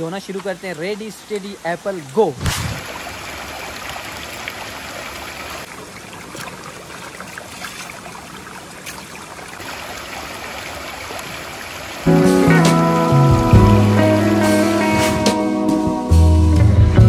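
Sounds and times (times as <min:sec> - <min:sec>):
stream running over rocks: 0:00.0 - 0:15.0
water splashes: 0:00.0 - 0:15.3.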